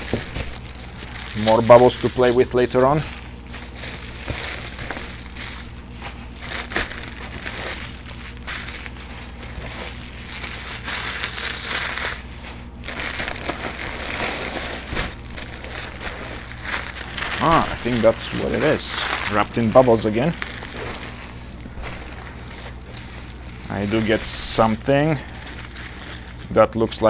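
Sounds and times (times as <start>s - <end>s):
bubble wrap crinkling: 0.0s - 27.0s.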